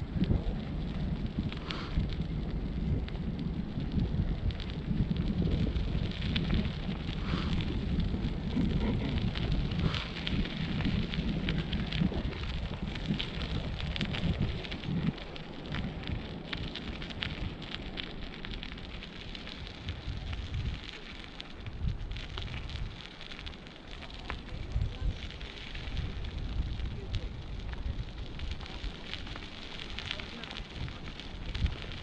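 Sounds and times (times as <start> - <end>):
small crackles and ticks: 0.0 - 32.0
wind rumbling on microphone: 0.0 - 32.0.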